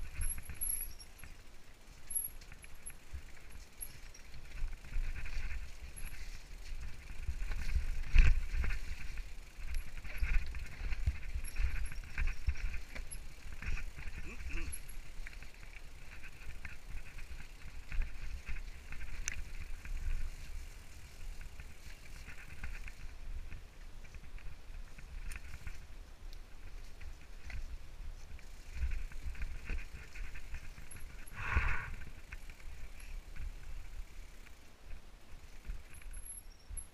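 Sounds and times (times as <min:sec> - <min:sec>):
wind rumbling on microphone: 0:02.4 - 0:36.2.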